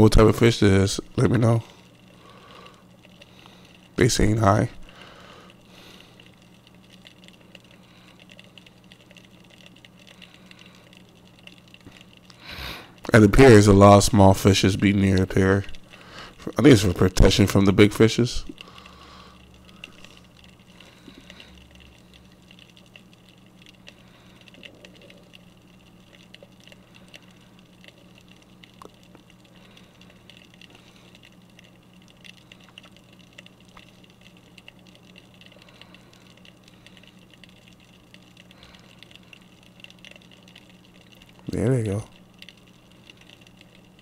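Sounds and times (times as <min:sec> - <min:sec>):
light ticks and crackles: 0:00.0 - 0:44.0
underwater low hum: 0:00.0 - 0:44.0.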